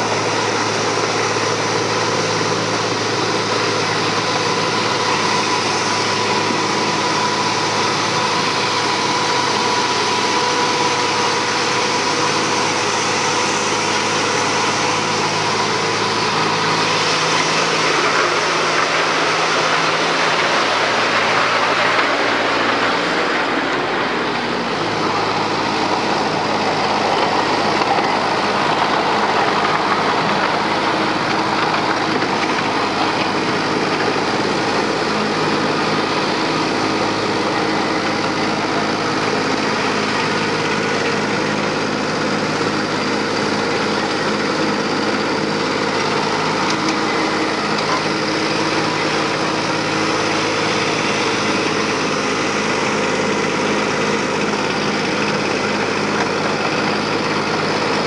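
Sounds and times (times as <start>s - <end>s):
miniature locomotive engine running: 0.0s - 58.0s
train running along track: 0.0s - 58.0s.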